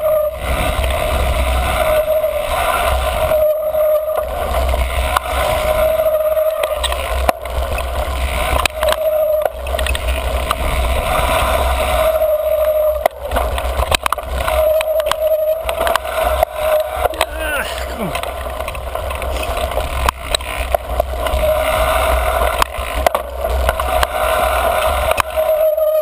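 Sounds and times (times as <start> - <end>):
bike rattling over bumps: 0.0 - 26.0
bike tyres on dirt trail: 0.0 - 26.0
brake squealing: 0.0 - 26.0
wind rumble on microphone: 0.0 - 26.0.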